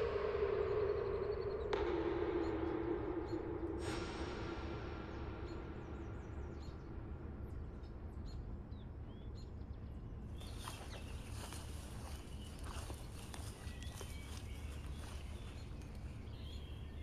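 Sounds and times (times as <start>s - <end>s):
bird chirps: 0.0s - 17.0s
low rumble: 0.0s - 17.0s.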